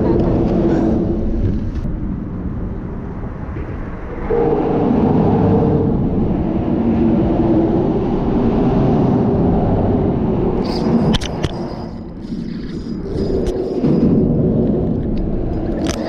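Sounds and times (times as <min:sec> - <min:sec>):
road traffic rumbling: 0:00.0 - 0:16.0
vehicle humming: 0:00.0 - 0:16.0.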